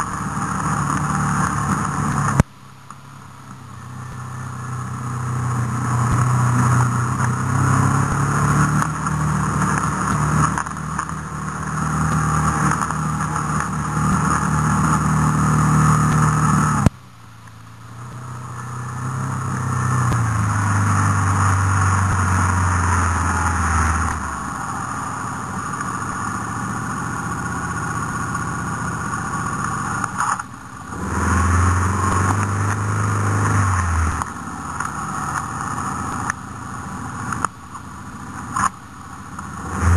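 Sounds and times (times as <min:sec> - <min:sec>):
off-road vehicle engine revving: 0:00.0 - 0:02.5, 0:03.2 - 0:39.9.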